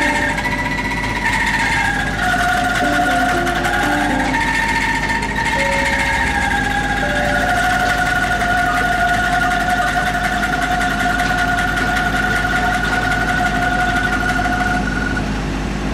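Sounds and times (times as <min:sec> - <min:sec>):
angklung rattling tremolo chord: 0:00.0 - 0:15.3.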